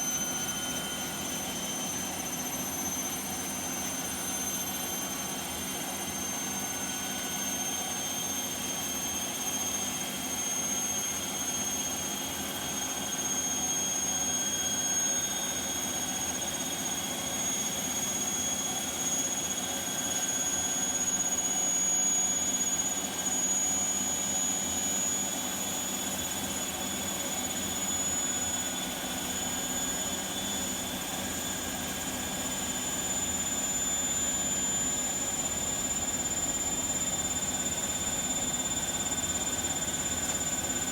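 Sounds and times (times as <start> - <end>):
washing machine spinning with whine: 0.0 - 40.9.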